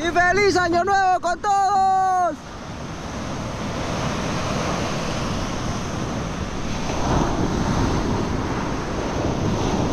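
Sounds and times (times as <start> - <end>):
sea waves washing ashore: 0.0 - 9.9
wind rumbling on microphone: 0.0 - 9.9.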